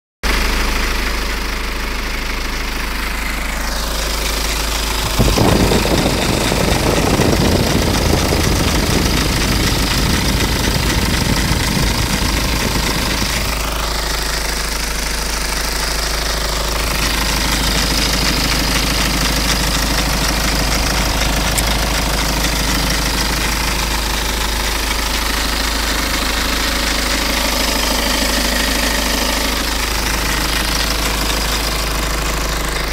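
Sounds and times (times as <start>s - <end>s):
engine knocking: 0.2s - 32.9s
diesel engine running: 0.3s - 32.9s.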